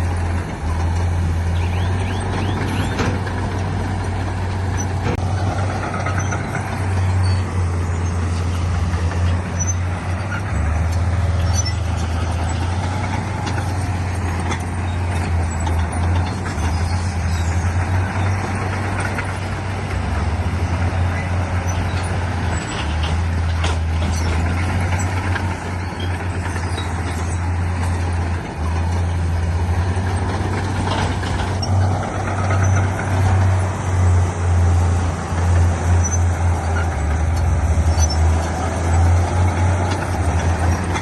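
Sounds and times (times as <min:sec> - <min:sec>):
heavy diesel machinery drone: 0:00.0 - 0:41.0.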